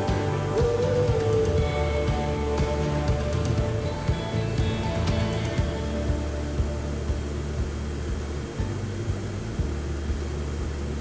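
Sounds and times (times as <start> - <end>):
background music with bass pulse: 0.0 - 11.0.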